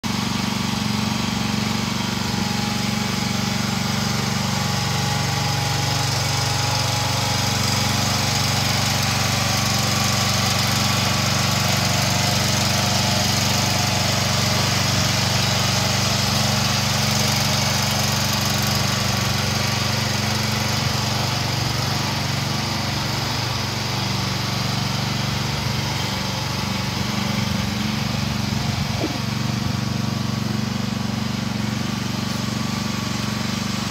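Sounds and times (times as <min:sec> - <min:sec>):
excavator engine running: 0:00.0 - 0:33.9.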